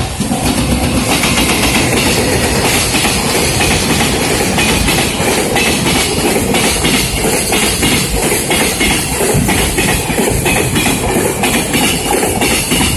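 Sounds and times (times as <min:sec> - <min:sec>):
clattering over rail joints: 0:00.0 - 0:12.9
train wheels on rail: 0:00.0 - 0:12.9.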